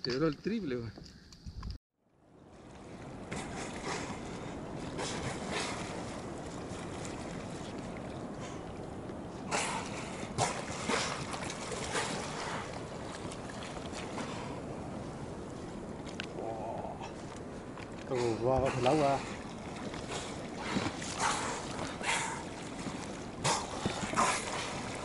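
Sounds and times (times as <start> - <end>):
sea water washing and splashing: 2.4 - 25.0.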